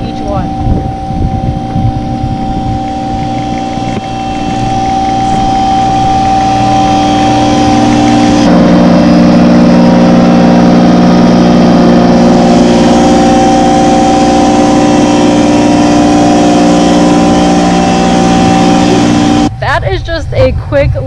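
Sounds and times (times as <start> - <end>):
vacuum pump motor drone: 0.0 - 20.6.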